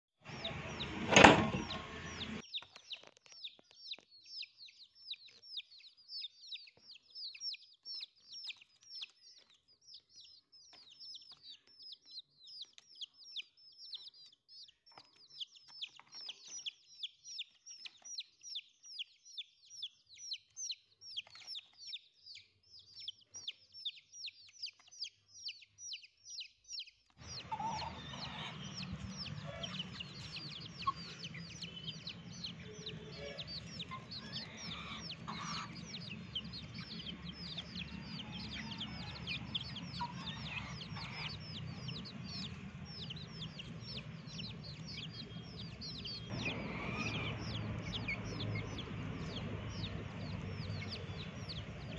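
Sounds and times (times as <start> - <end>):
young chickens peeping: 0.2 - 51.9.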